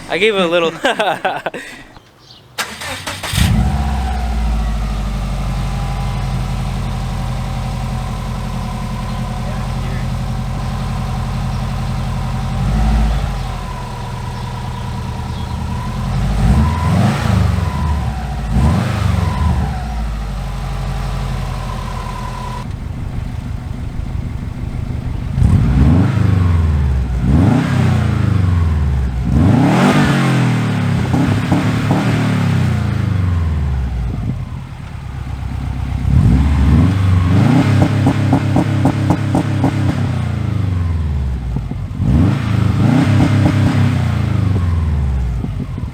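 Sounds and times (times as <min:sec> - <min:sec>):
car engine revving: 0:02.6 - 0:45.9.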